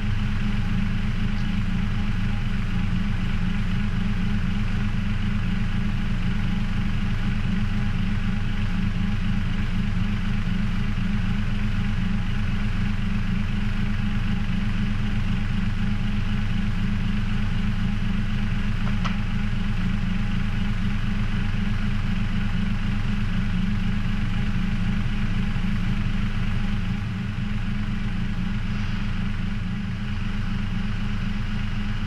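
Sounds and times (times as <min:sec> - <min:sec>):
heavy engine idling: 0:00.0 - 0:32.0.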